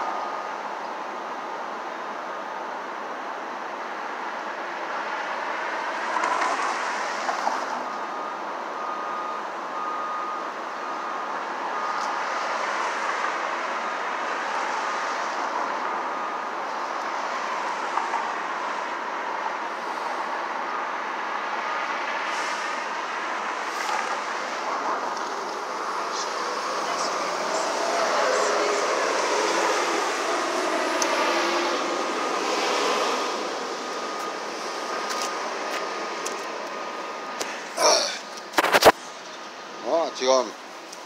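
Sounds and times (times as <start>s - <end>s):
city street traffic: 0.0s - 41.0s
vehicles passing: 0.0s - 41.0s.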